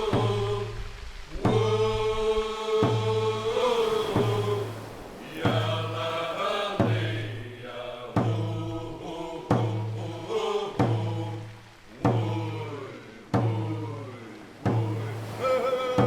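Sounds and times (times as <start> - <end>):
group chanting in unison: 0.0 - 16.0
struck drumbeat: 0.0 - 16.0.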